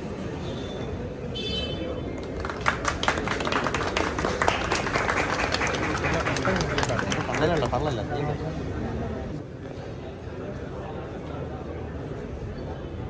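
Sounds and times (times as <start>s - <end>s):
crowd murmur: 0.0s - 13.0s.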